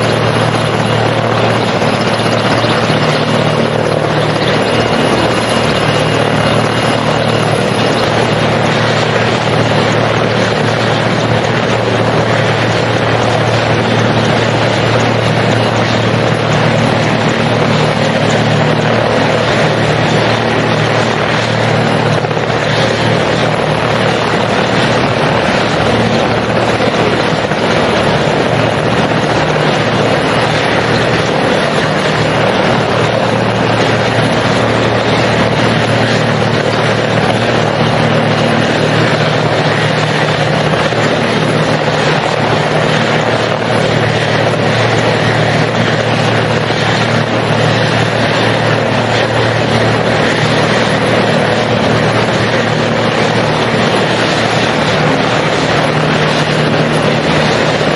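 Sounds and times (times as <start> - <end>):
helicopter engine and rotor: 0.0 - 57.9.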